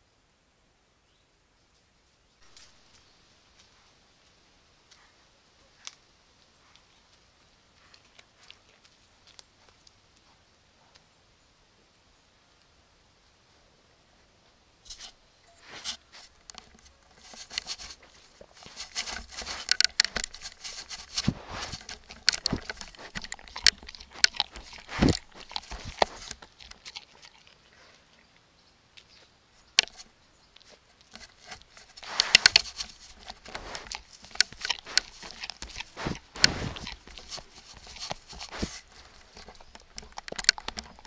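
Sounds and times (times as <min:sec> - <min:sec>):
animal crunching and rustling: 0:02.4 - 0:11.1, 0:14.9 - 0:41.0.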